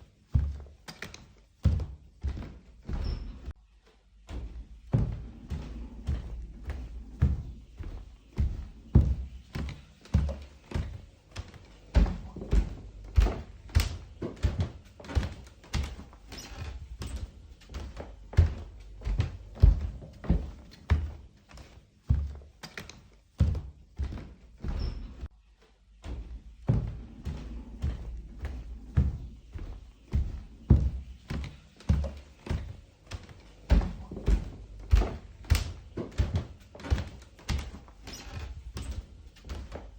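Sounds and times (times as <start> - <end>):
footsteps walking: 0.0 - 25.3, 26.0 - 39.9.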